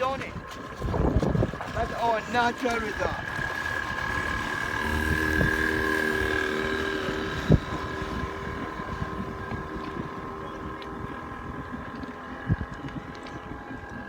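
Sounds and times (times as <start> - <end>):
engine hum: 0.0 - 14.0
wind noise on microphone: 0.0 - 14.0.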